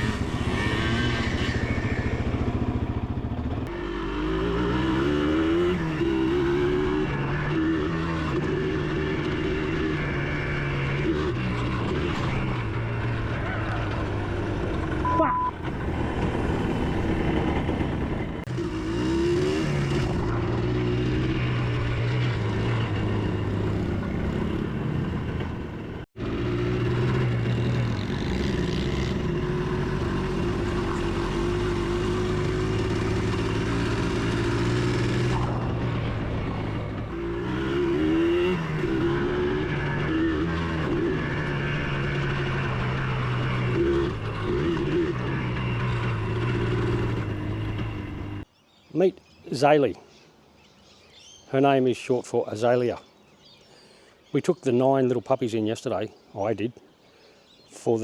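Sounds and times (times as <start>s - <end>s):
motorbike engine revving: 0.0s - 48.5s.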